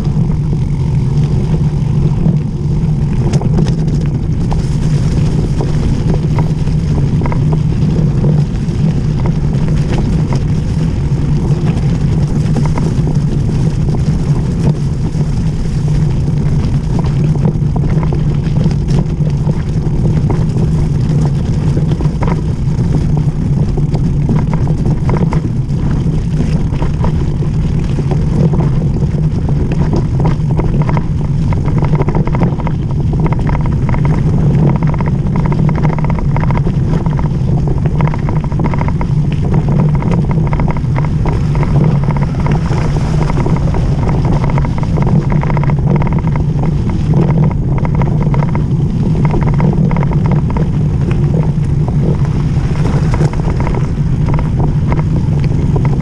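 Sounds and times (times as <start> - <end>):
tyres rolling over loose gravel: 0.0 - 56.0
wind rumble on microphone: 0.0 - 56.0.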